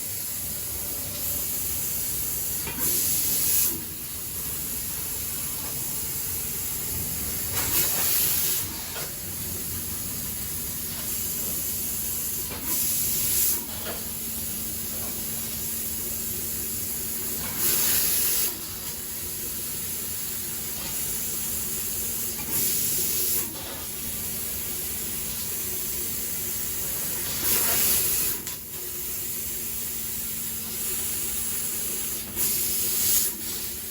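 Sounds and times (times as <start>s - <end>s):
laser cutter hissing: 0.0s - 33.9s.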